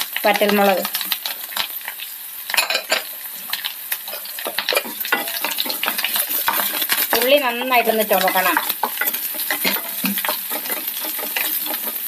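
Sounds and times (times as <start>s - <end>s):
oil sizzling with crackles: 0.0s - 12.0s.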